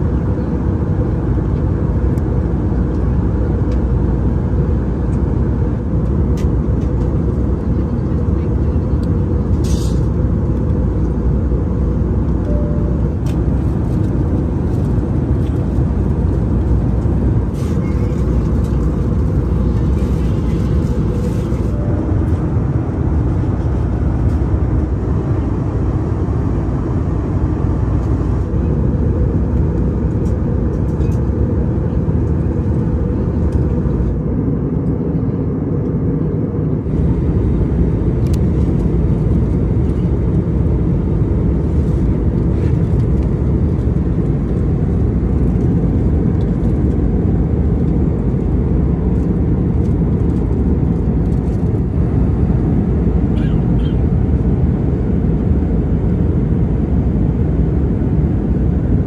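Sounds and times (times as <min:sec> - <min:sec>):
airplane engine rumble in cabin: 0:00.0 - 0:59.0.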